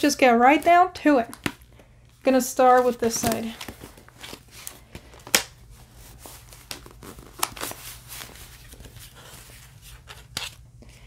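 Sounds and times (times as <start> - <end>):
papers rustling: 0.4 - 10.6.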